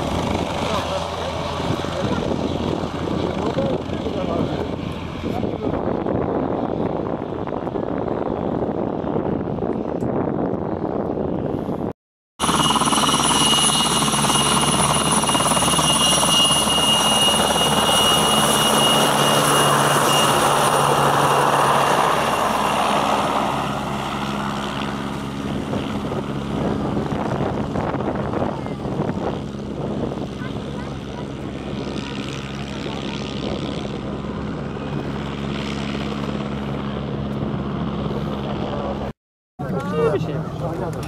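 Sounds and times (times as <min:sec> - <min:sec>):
helicopter rotor noise: 0:00.0 - 0:41.0
helicopter turbine whine: 0:00.0 - 0:41.0.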